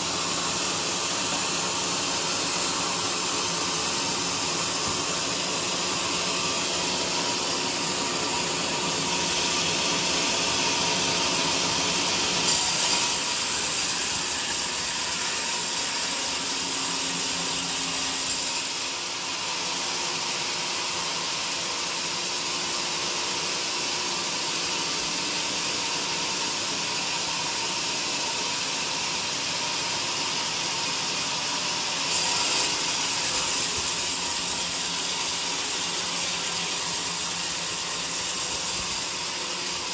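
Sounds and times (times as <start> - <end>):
band saw cutting wood: 0.0 - 22.4, 24.2 - 39.9.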